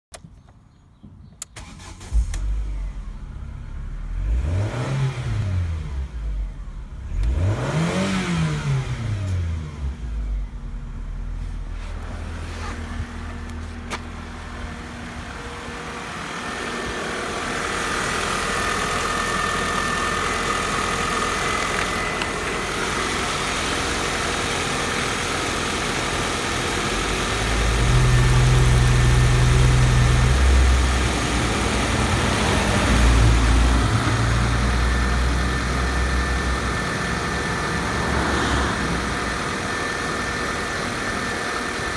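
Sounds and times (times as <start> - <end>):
car engine starting and revving: 1.4 - 41.9.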